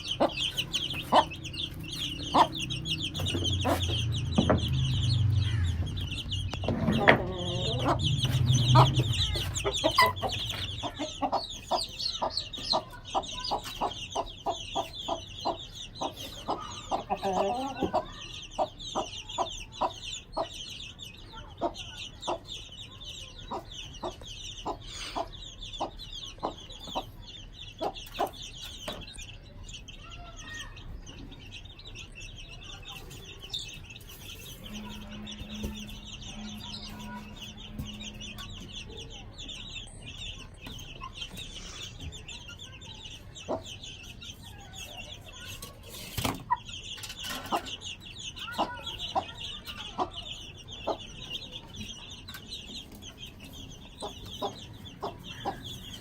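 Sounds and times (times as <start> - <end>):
hen clucking: 0.0 - 29.1, 31.1 - 56.0
chicks peeping: 0.0 - 56.0.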